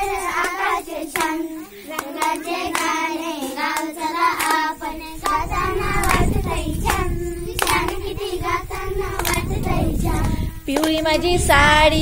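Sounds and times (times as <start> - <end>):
hands clapping: 0.0 - 8.2, 9.1 - 11.2
girls singing in unison: 0.0 - 12.0.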